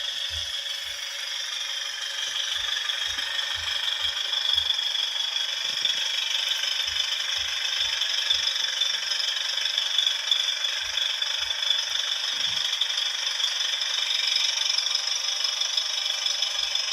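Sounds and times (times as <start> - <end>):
thin van engine through small speaker: 0.0 - 16.9.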